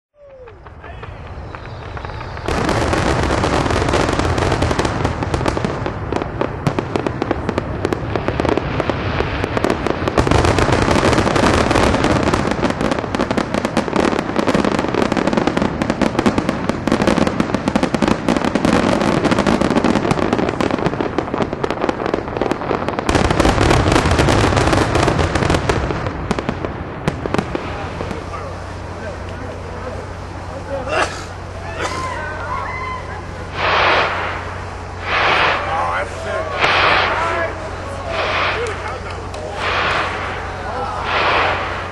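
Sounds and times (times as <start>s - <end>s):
fireworks cracking and popping: 0.2s - 41.9s.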